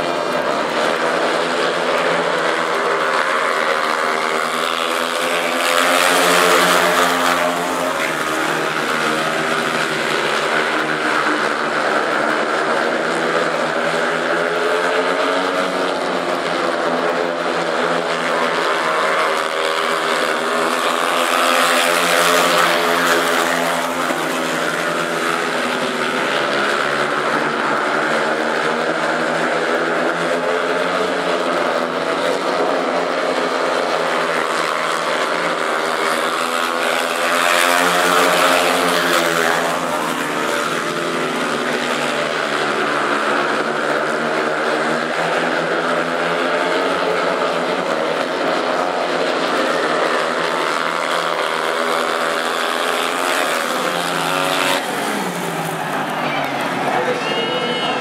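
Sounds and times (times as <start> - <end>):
motorcycles racing at full throttle: 0.0 - 58.0.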